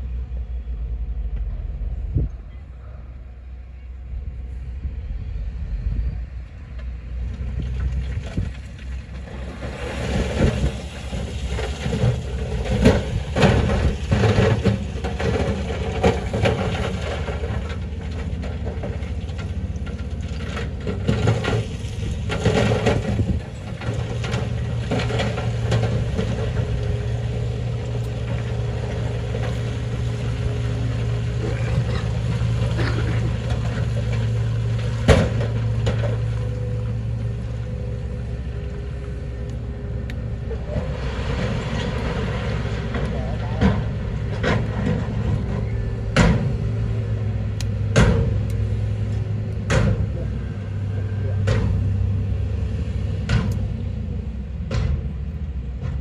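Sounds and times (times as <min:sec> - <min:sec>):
wheel loader diesel engine: 0:00.0 - 0:56.0.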